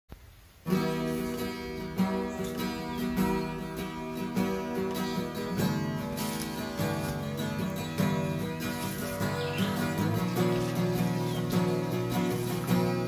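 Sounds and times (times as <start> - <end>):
acoustic guitar strumming chords: 0.6 - 13.0.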